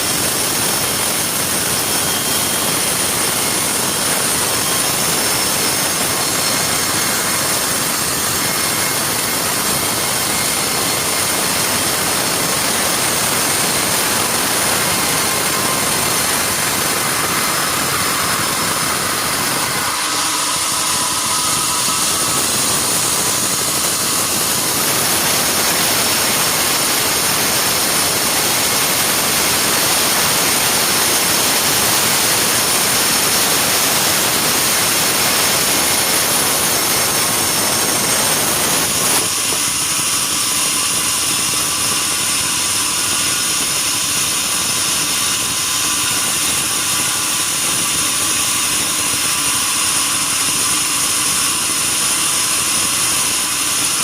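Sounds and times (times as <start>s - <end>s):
saw cutting timber: 0.0s - 54.0s.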